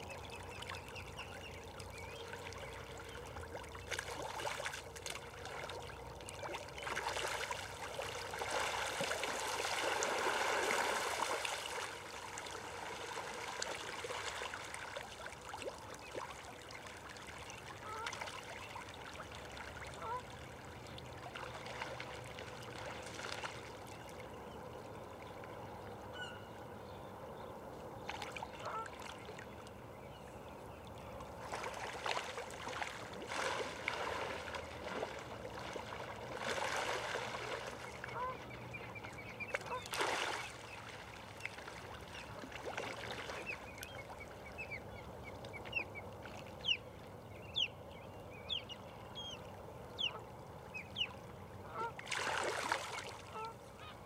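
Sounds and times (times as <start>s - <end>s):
water-like background noise: 0.0s - 54.0s.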